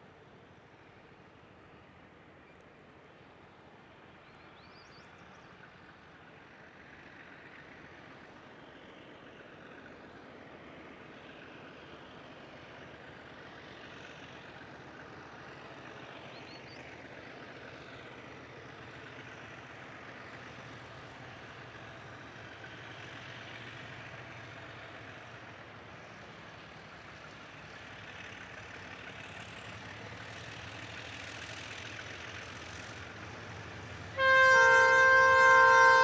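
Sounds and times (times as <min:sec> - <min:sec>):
diesel locomotive engine drone: 0:00.0 - 0:36.0.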